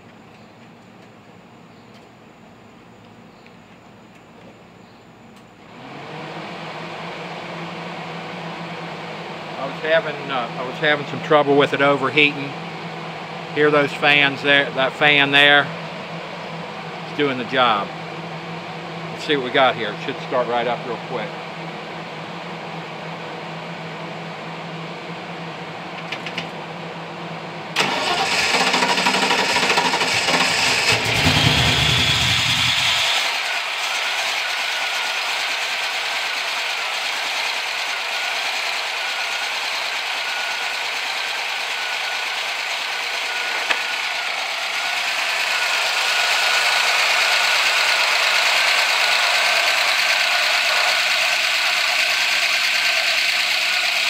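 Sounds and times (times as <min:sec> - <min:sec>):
radiator cooling fans running: 0:00.0 - 0:31.3, 0:33.4 - 0:54.0
car engine starting and idling: 0:05.4 - 0:54.0.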